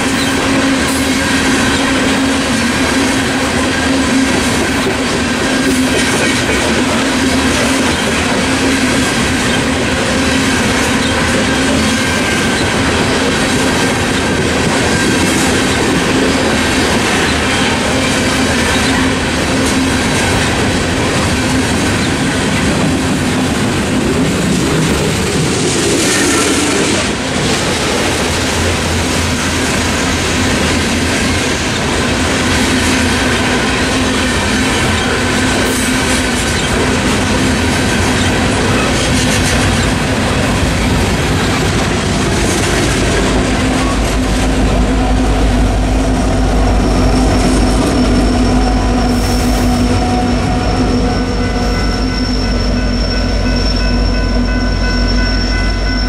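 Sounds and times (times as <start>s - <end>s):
crossing bell ringing: 0.0s - 23.2s, 28.6s - 56.0s
clickety-clack of train wheels: 0.0s - 56.0s
deep train rumble: 0.0s - 56.0s
train wheels on rails: 0.0s - 56.0s.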